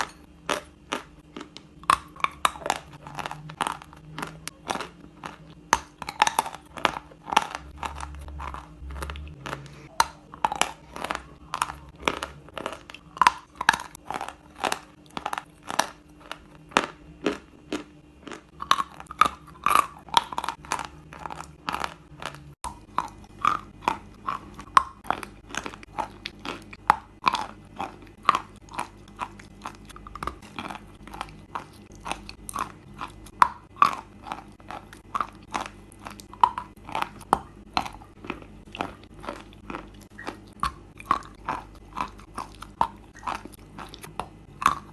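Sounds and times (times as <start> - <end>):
chewing chalk crunches: 0.0 - 44.9.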